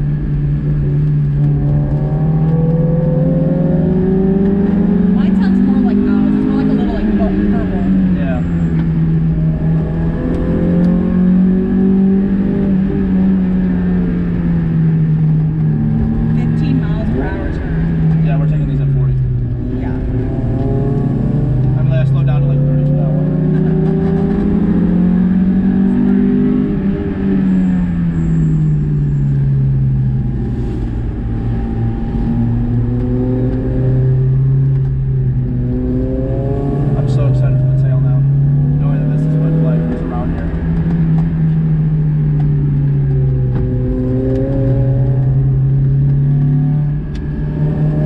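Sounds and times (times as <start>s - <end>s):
car engine pulling: 0.0s - 48.0s
road noise: 0.0s - 48.0s.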